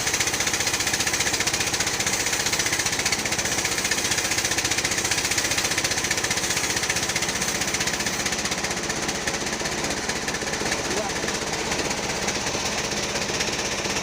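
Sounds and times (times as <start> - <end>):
band sawmill running: 0.0 - 14.0
high saw whine: 0.0 - 14.0.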